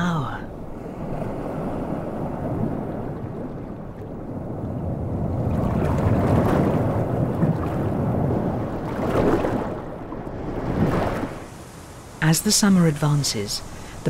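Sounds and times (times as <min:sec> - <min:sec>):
sea water rushing and sloshing: 0:00.0 - 0:14.0.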